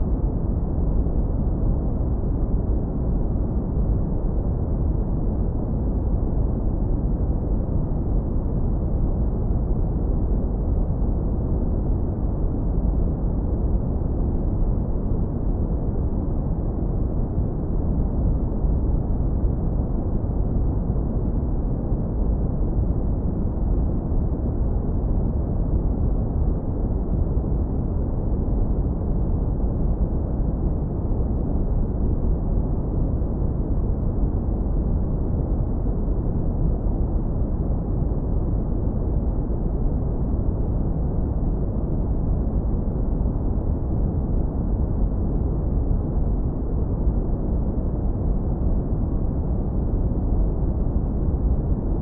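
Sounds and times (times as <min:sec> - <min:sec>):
deep brown noise rumble: 0:00.0 - 0:52.0.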